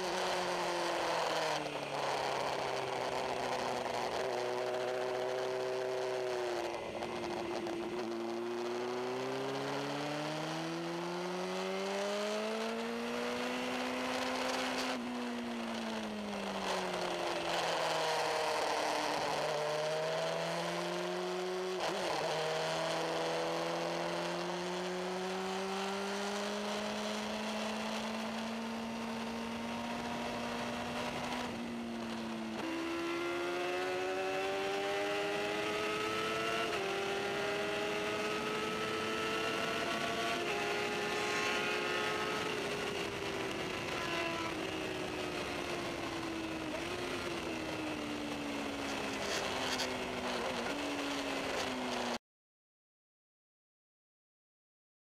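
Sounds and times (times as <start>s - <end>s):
motorcycle engine revving: 0.0s - 52.2s.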